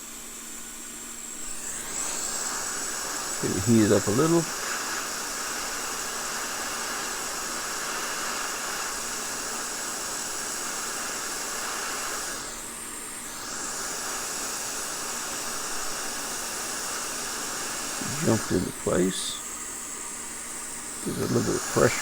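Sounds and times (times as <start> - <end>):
hot air station hissing: 0.0 - 22.0.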